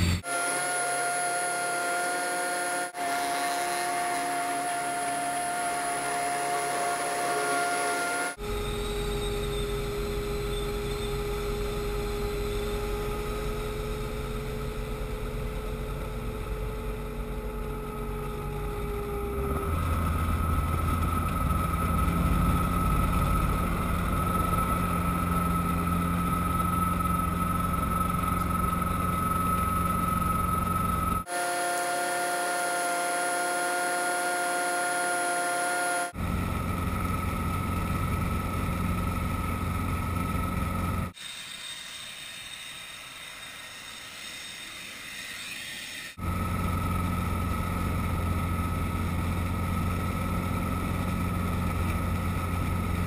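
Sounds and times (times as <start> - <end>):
helicopter engine and rotor whine: 4.1 - 41.2, 44.8 - 53.0.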